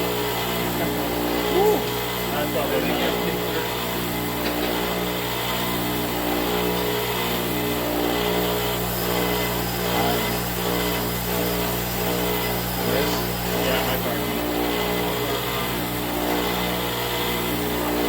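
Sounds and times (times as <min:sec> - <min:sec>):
electric grinder grinding: 0:00.0 - 0:18.0.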